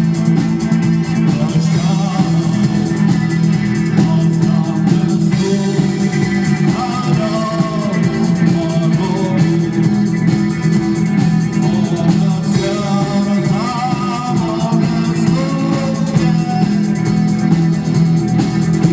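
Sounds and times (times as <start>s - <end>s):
rock band playing: 0.0s - 18.9s.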